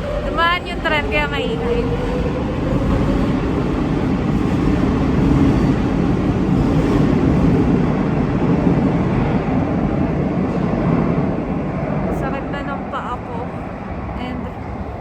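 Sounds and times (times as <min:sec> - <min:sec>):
underground train rumbling: 0:00.0 - 0:15.0.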